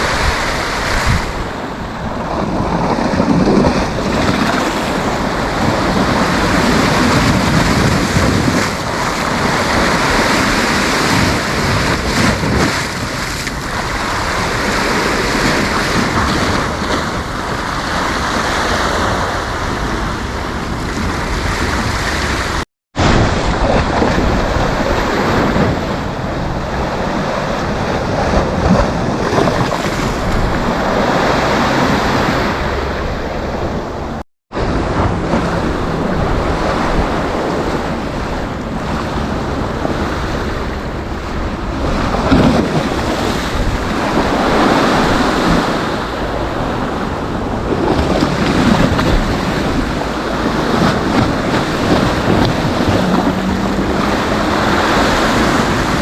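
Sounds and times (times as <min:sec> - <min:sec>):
sea waves breaking: 0:00.0 - 0:56.0
wind buffeting microphone: 0:00.0 - 0:56.0.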